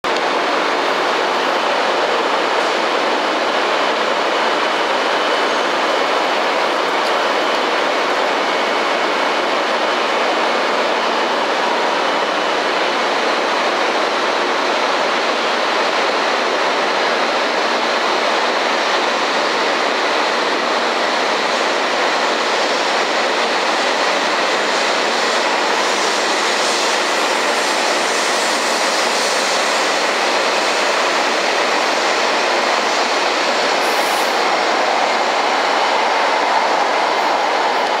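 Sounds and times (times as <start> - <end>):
train wheels rushing on rails: 0.0 - 38.0.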